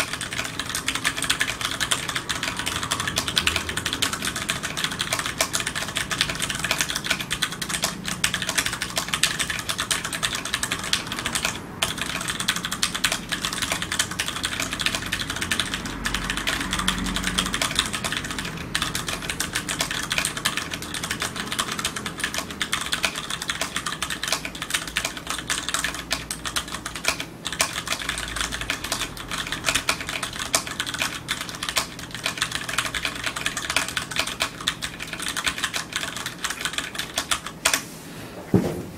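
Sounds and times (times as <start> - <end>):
fast mechanical keyboard typing: 0.0 - 37.8.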